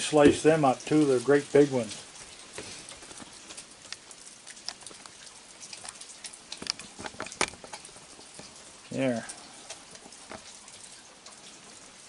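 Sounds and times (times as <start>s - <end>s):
rain pattering: 0.0s - 12.0s
sharp drips: 0.0s - 12.0s.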